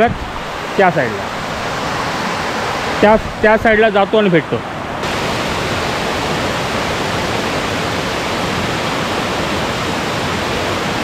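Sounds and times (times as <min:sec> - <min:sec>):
water rushing over weir and rocks: 0:00.0 - 0:11.0.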